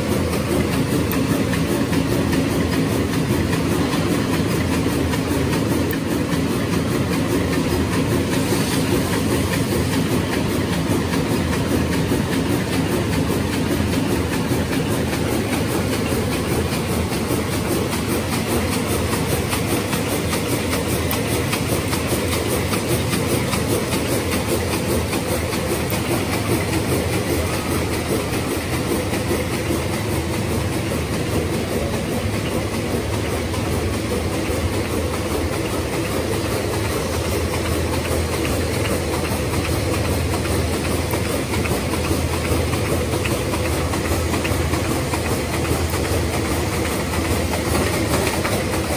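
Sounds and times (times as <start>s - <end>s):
machine rapid mechanical clatter: 0.0s - 48.9s.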